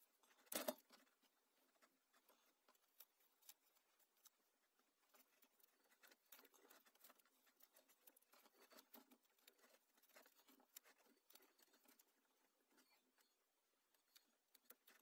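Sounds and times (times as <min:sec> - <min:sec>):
rustling and clicks of wires: 0:00.0 - 0:15.0.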